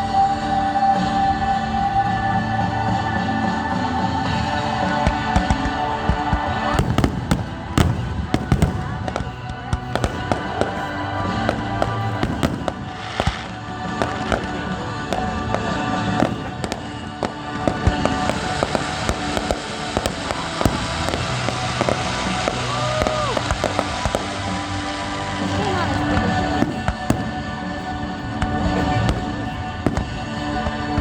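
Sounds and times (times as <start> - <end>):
music playing: 0.0 - 31.0
fireworks banging and crackling: 4.0 - 31.0.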